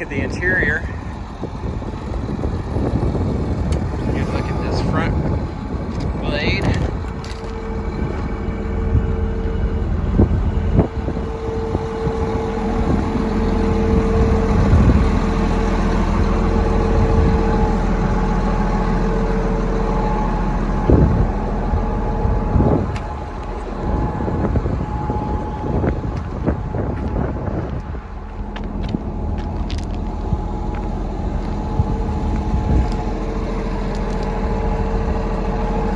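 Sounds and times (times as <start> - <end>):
bulldozer diesel engine running: 0.0 - 35.9.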